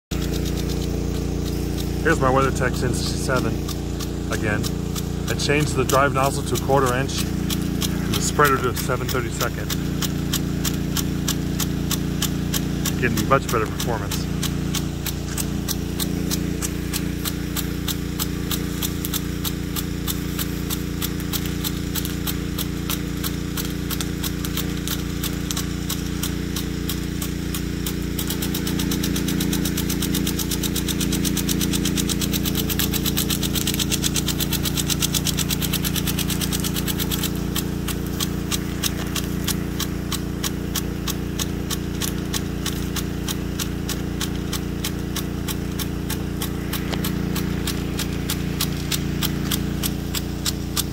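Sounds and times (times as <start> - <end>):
pump humming: 0.1 - 50.9
sprinkler arm clicking rapidly: 0.1 - 50.9.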